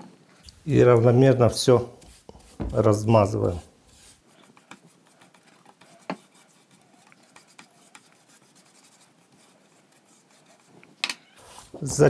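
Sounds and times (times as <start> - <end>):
paintbrush brushing on board: 0.4 - 12.0.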